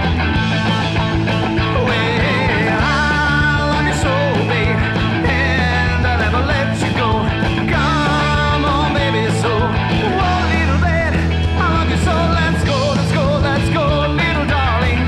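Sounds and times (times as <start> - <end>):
rockabilly band playing live: 0.0 - 15.0.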